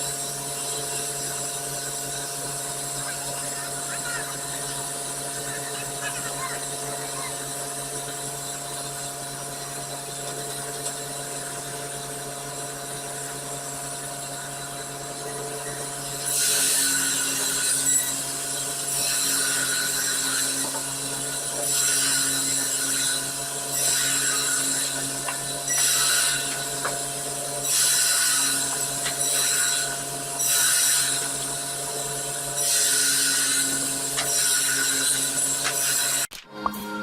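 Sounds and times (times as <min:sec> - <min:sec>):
chainsaw cutting wood: 0:00.0 - 0:37.0
motor running: 0:00.0 - 0:37.0.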